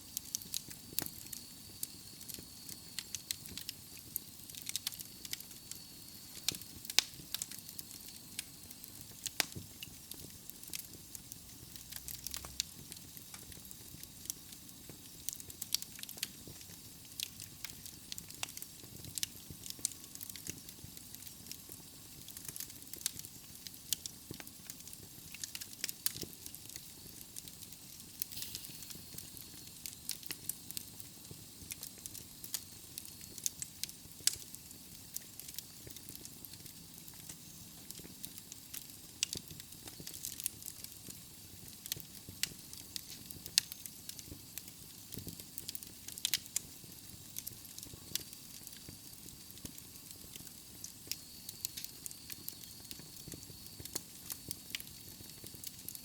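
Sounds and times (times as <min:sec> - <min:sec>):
burning logs crackling and popping: 0:00.0 - 0:56.0
fire hissing: 0:00.0 - 0:56.0.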